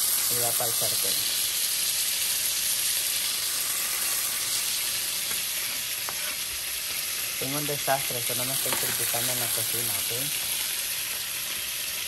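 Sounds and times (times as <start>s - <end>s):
garlic sizzling in a frying pan: 0.0s - 12.0s.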